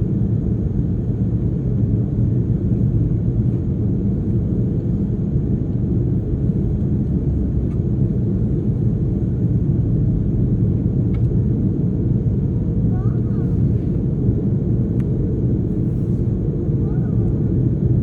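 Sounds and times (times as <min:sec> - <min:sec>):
jet engines idling: 0:00.1 - 0:18.0.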